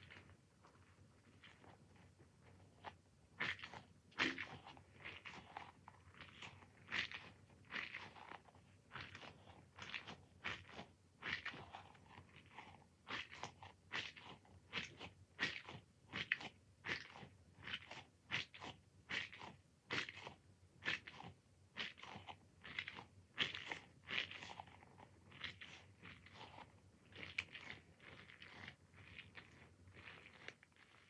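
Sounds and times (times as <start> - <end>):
squishy ball being squeezed: 2.6 - 31.0.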